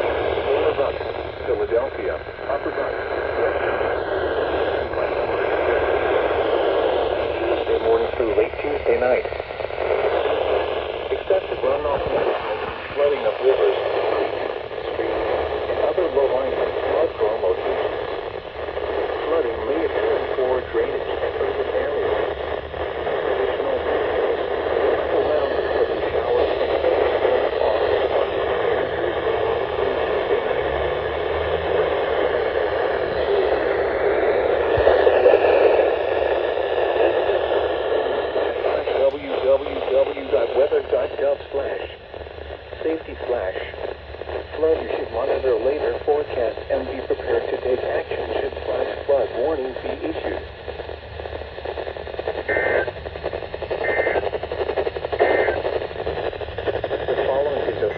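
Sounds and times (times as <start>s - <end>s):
broadcast voice in noise: 0.0s - 57.9s
radio static hiss: 0.0s - 57.9s.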